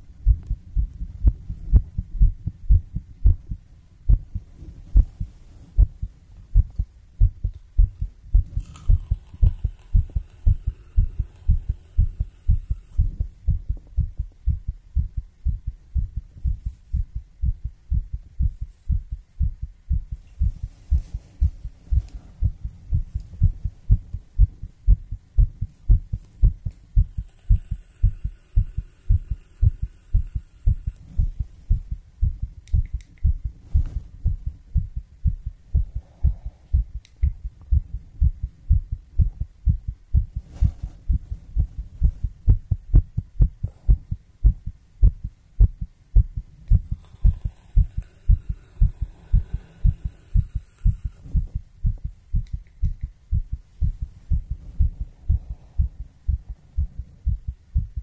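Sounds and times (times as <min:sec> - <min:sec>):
heartbeat thuds: 0:00.0 - 0:58.0.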